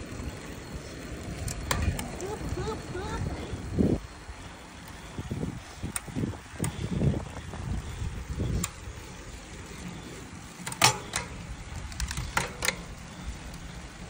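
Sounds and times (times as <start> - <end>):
bicycle clicks and rattles: 0.0 - 14.0
wind and road noise: 0.0 - 14.0.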